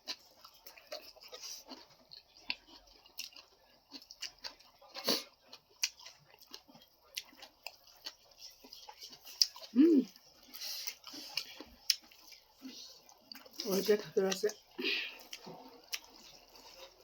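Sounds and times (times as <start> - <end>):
chewing and mouth smacks: 0.0 - 17.0.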